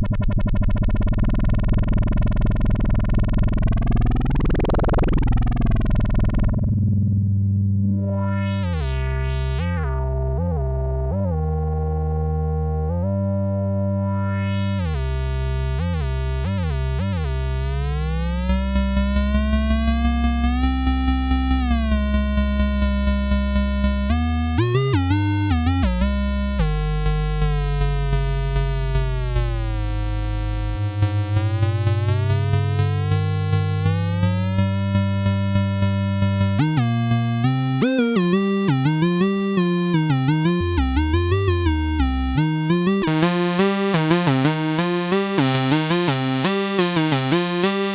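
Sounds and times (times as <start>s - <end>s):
synthesizer low tone with filter sweep: 0.0s - 47.9s.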